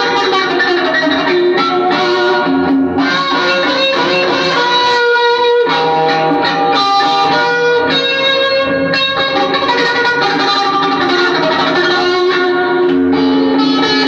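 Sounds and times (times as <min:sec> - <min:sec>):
electric guitar slow melody: 0:00.0 - 0:14.0.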